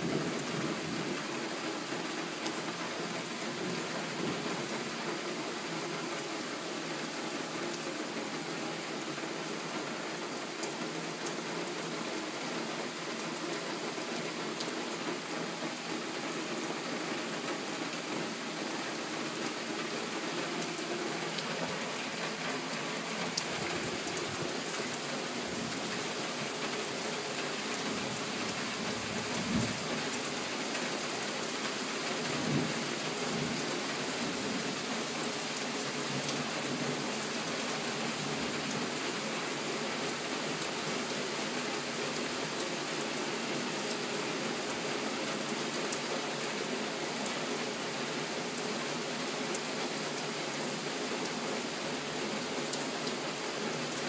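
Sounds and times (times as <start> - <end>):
rain pouring: 0.0 - 54.0.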